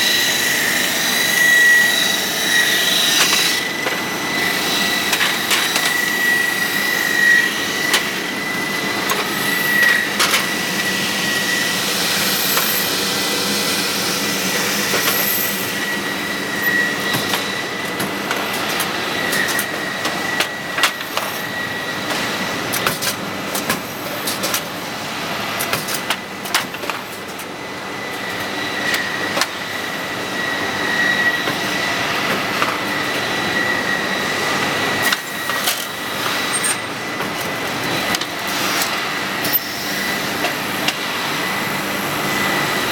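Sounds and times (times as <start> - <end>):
machinery whine and rushing: 0.0 - 42.9.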